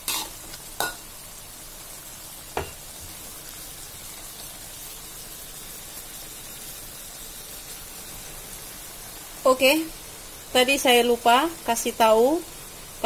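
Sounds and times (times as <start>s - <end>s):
beans sizzling in a wok: 0.0s - 13.0s.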